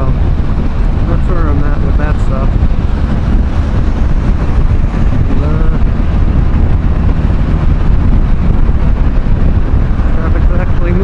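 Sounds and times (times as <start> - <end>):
motorcycle engine and road rumble: 0.0 - 11.0
wind rushing over microphone: 0.0 - 11.0.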